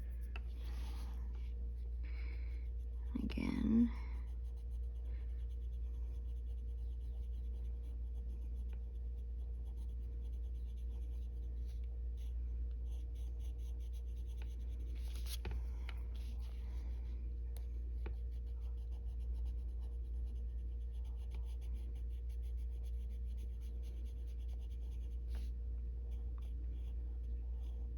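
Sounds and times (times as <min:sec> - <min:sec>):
low electrical hum: 0:00.0 - 0:27.9
pencil scratching on paper: 0:02.6 - 0:17.0, 0:17.8 - 0:27.9.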